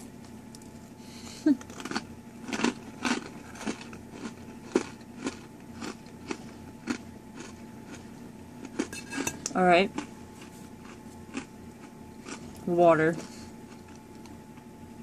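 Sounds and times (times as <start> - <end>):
crunchy biting and chewing: 1.6 - 14.7.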